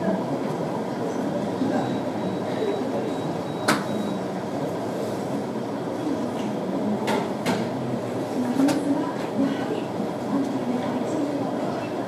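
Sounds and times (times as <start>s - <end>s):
background rumble and murmur: 0.0s - 12.0s.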